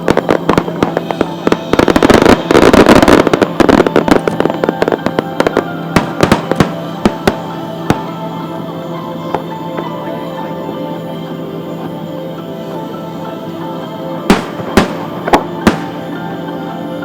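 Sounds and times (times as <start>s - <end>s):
background music: 0.0s - 17.0s
fireworks bursting and crackling: 0.0s - 17.0s.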